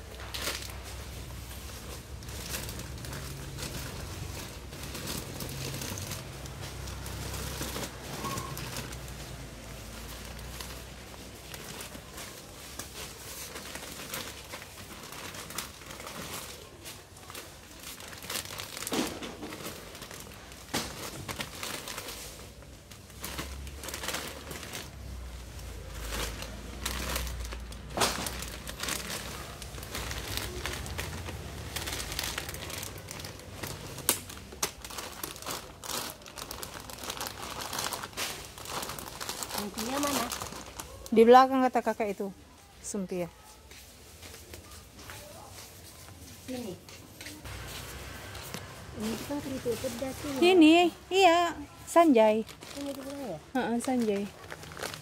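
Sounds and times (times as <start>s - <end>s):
plastic crisp bags crinkling: 0.0s - 55.0s.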